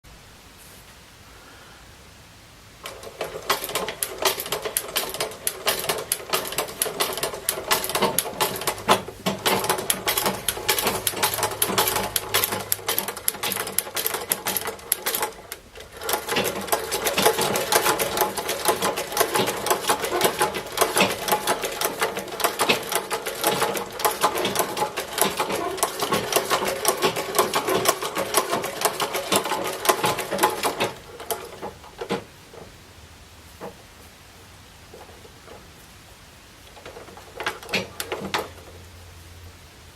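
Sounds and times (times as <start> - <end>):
sewing machine clatter: 2.8 - 32.7, 36.6 - 38.8.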